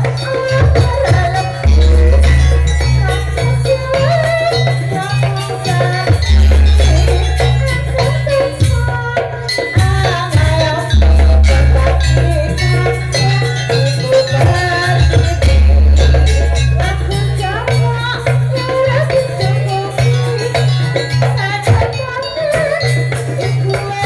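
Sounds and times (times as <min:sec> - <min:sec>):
wavering melody line: 0:00.0 - 0:08.9, 0:09.5 - 0:24.0
rattling percussion: 0:00.0 - 0:24.0.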